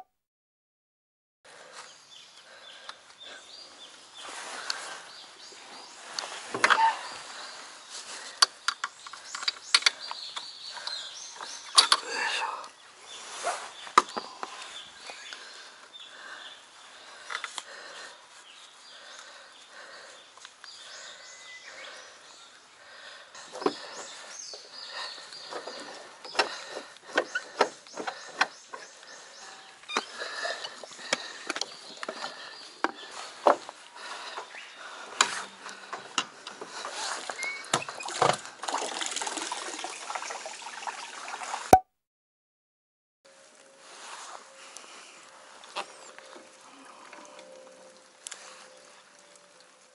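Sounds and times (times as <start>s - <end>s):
faint birds chirping: 1.5s - 38.6s, 43.3s - 49.9s.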